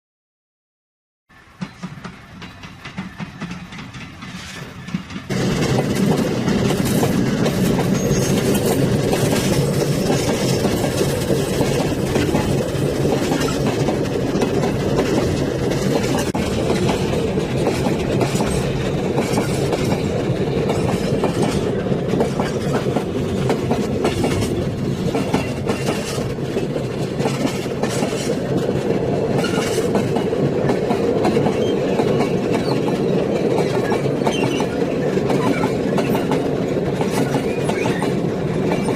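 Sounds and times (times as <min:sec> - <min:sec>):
train wheels clattering on rails: 0:01.4 - 0:38.9.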